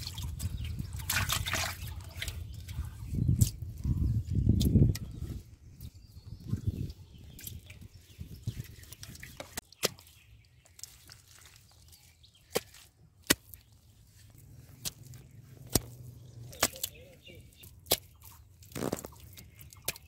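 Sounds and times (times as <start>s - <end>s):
wet mud squelching: 0.0s - 20.0s.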